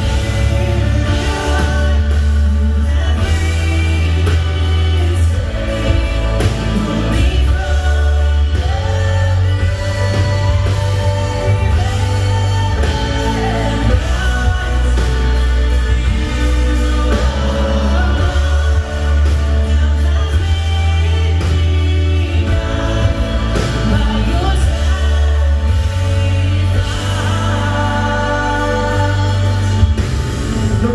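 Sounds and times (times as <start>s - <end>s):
acoustic guitar: 0.0s - 30.9s
drums: 0.0s - 30.9s
heavy bass: 0.0s - 30.9s
keyboard: 0.0s - 30.9s
people singing: 0.0s - 30.9s.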